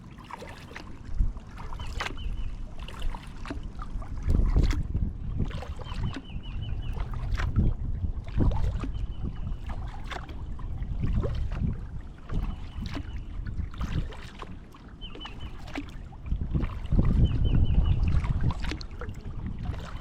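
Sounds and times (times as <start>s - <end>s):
paddle strokes with water splashing: 0.0s - 20.0s
wind rumble on microphone: 0.0s - 20.0s.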